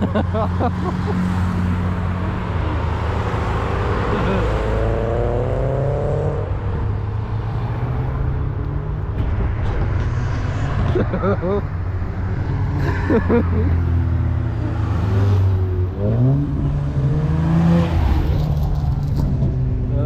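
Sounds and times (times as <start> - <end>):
car accelerating: 0.0 - 20.0
cars driving past: 0.0 - 20.0.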